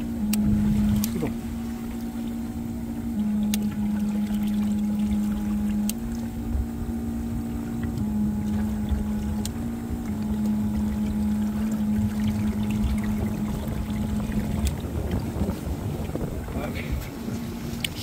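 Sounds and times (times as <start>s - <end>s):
low rumble: 0.0s - 18.0s
pump motor humming: 0.0s - 18.0s.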